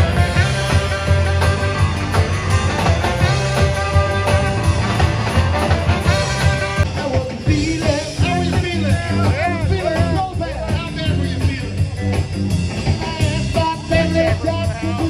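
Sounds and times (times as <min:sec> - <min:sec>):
drums steady beat: 0:00.0 - 0:15.0
electric guitars: 0:00.0 - 0:15.0.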